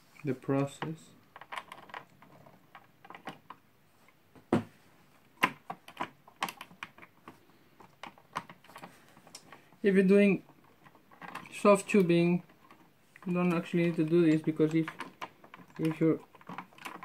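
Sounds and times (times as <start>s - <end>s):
fingers clicking and tapping hardware: 0.8s - 3.6s, 5.4s - 9.8s, 10.5s - 17.0s.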